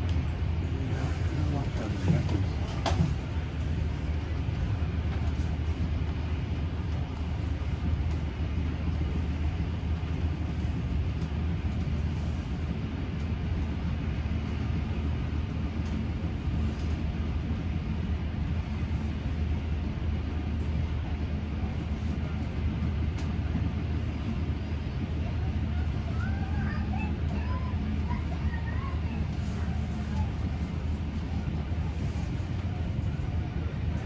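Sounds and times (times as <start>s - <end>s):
train carriage rumbling on track: 0.0s - 34.0s.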